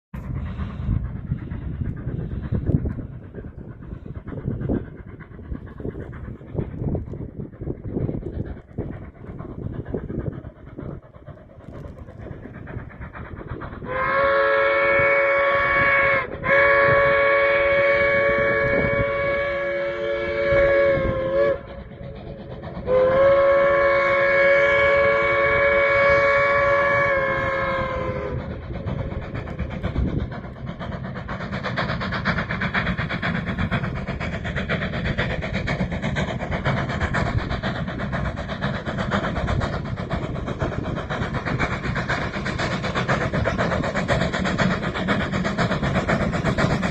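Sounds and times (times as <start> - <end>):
train rumbling on rails: 0.1 - 46.9.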